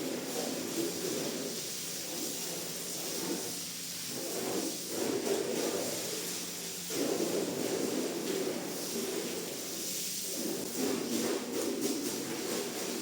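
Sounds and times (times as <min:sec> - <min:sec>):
scraping strokes on a rug: 0:00.0 - 0:13.0
steady hiss: 0:00.0 - 0:13.0.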